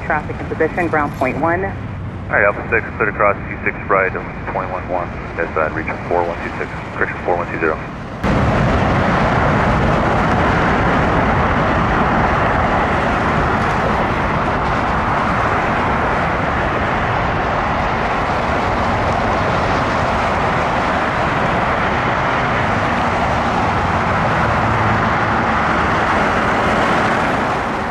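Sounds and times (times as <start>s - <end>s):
jet engines roaring: 0.0s - 27.9s
road traffic passing: 0.0s - 27.9s.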